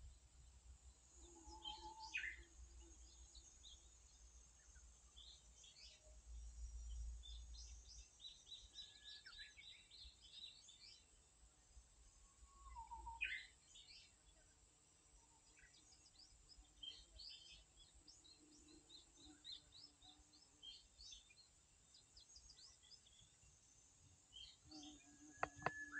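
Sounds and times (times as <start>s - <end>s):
small birds chirping: 0.0s - 11.8s, 12.4s - 25.9s.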